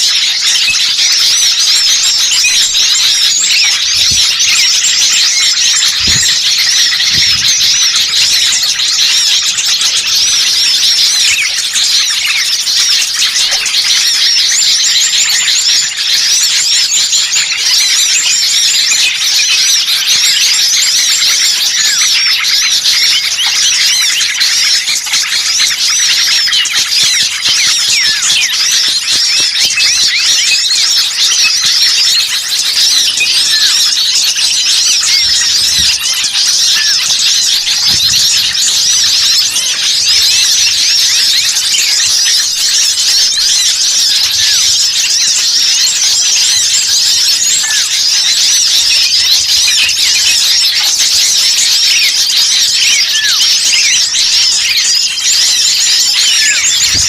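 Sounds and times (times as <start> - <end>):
chorus of small songbirds chirping: 0.0 - 57.0.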